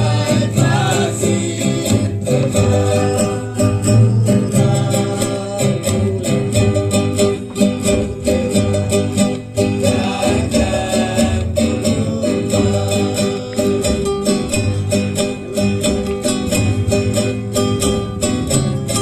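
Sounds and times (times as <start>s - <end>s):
acoustic string band playing: 0.0s - 19.0s
fast strumming: 0.0s - 19.0s
steady bass line: 0.0s - 19.0s.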